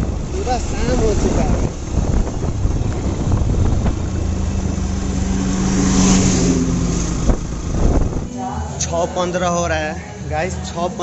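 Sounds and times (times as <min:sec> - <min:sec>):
car passing: 0:00.0 - 0:09.4
motorcycle engine running: 0:00.0 - 0:09.7
wind and road noise: 0:00.0 - 0:09.9.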